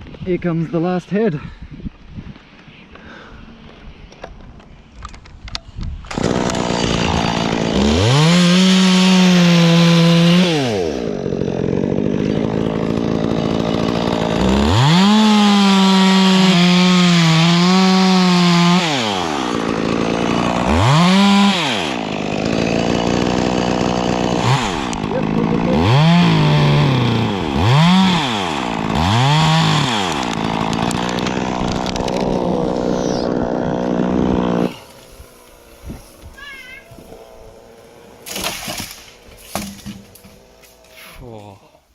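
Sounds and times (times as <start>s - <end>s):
chainsaw cutting wood: 6.0s - 41.2s
chainsaw idling and revving: 6.1s - 36.2s, 37.0s - 41.4s.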